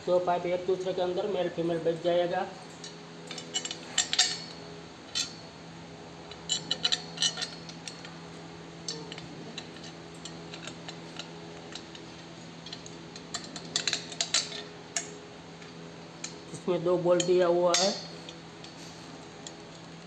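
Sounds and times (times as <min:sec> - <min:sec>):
steady low hum: 0:00.0 - 0:20.0
metal pipes clinking: 0:02.7 - 0:05.4, 0:06.2 - 0:20.0.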